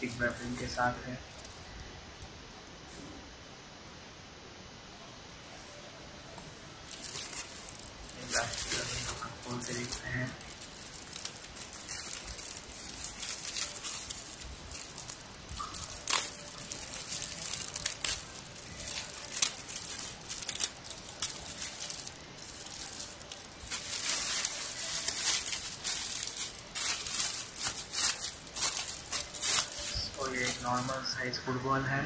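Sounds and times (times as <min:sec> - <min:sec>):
plastic wrap crinkling and tearing: 0:00.0 - 0:01.8, 0:06.7 - 0:31.9.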